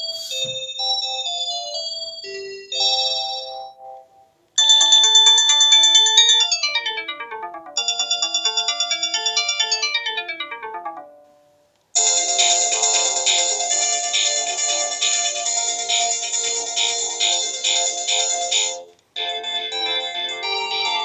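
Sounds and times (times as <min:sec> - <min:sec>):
melodic phone ringtone: 0:00.0 - 0:21.0.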